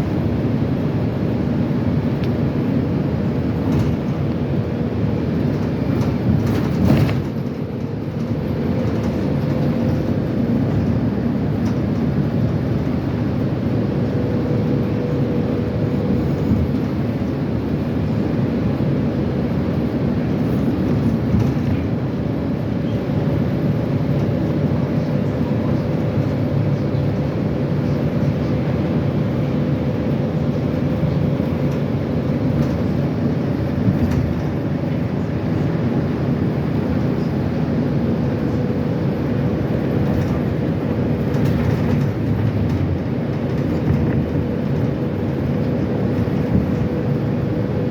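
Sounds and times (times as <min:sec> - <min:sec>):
train clatter: 0:00.0 - 0:47.9
train rumbling on rails: 0:00.0 - 0:47.9.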